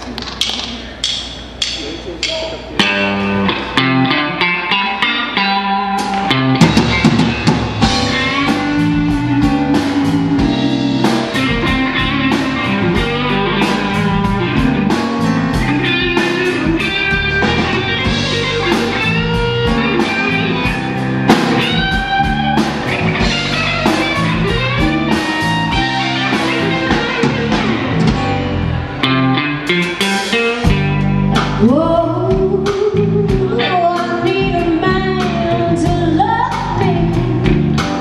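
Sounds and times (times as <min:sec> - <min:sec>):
bass: 0:00.0 - 0:38.0
drum kit: 0:00.0 - 0:38.0
electric guitar lead with bent notes: 0:02.6 - 0:38.0.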